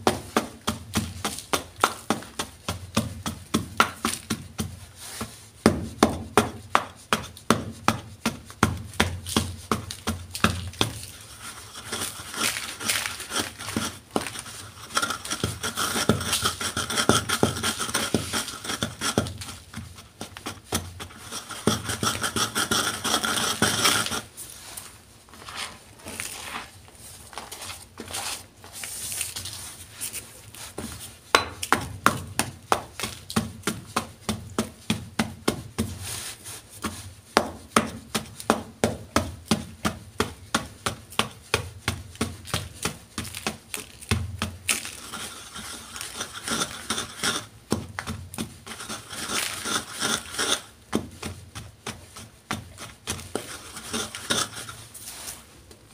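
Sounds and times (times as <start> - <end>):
pestle pounding in a bowl: 0.0 - 24.2, 30.9 - 36.1, 36.8 - 54.7
pestle grinding chalk: 0.0 - 55.5.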